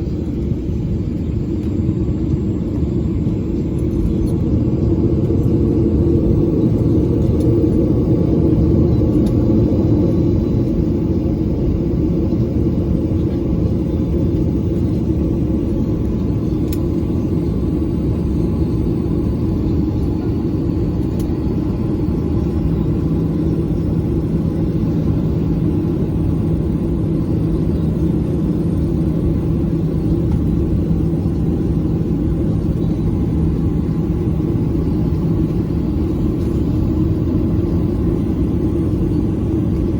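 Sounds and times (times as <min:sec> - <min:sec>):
jet engine cabin rumble: 0:00.0 - 0:39.9
steady low hum: 0:00.0 - 0:39.9.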